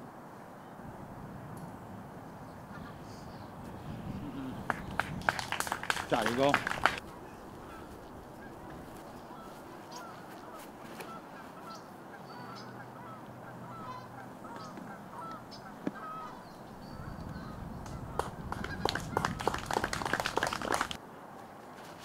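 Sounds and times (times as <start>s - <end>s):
flock of birds calling: 2.5s - 21.0s.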